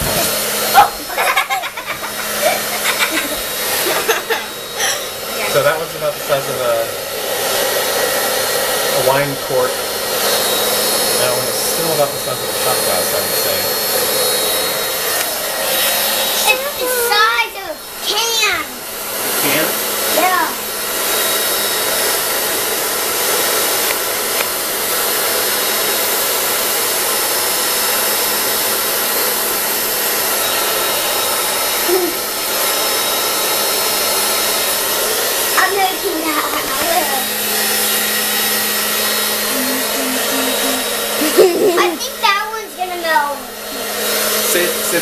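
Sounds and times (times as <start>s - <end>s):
hair dryer blowing air: 0.0s - 45.0s.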